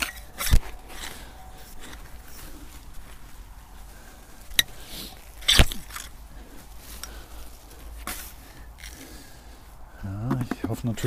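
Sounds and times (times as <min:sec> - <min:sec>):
digging fork crunching soil: 0:00.0 - 0:11.0.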